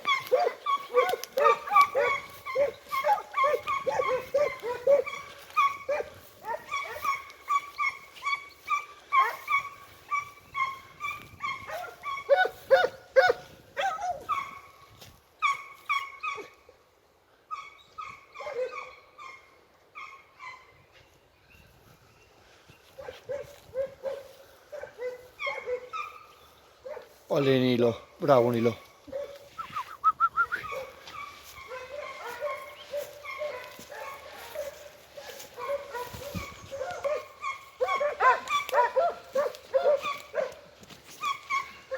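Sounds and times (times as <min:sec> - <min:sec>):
hounds baying and yelping: 0:00.0 - 0:41.9.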